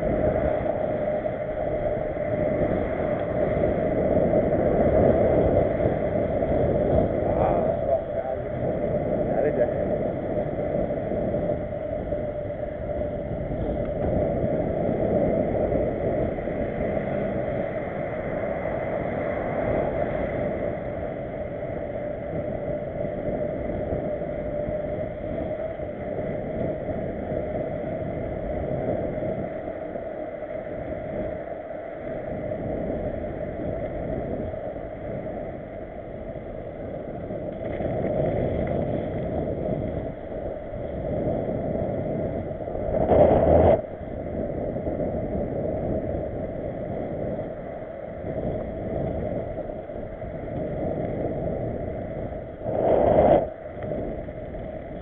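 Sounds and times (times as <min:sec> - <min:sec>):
wind against microphone: 0:00.0 - 0:55.0.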